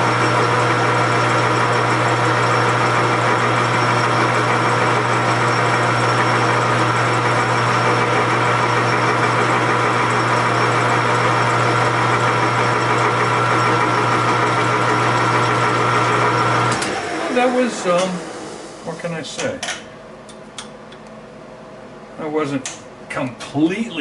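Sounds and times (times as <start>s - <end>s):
lathe motor humming with whine: 0.0s - 19.2s.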